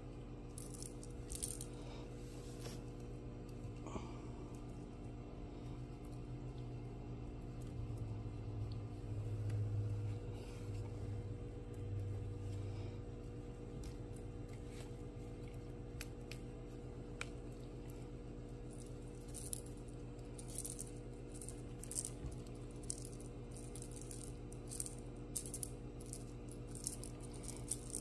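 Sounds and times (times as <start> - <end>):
kittens playing clicks and rattles: 0.0 - 28.0
steady low hum: 0.0 - 28.0.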